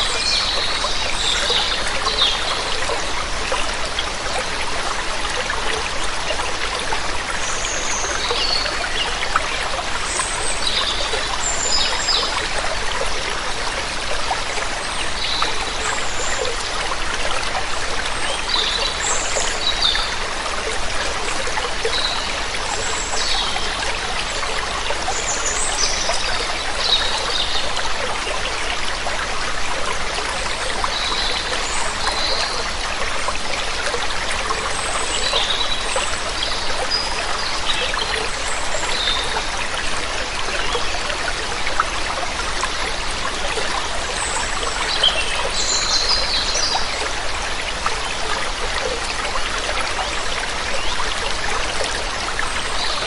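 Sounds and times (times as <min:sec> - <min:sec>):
water rushing from waterfall: 0:00.0 - 0:53.0.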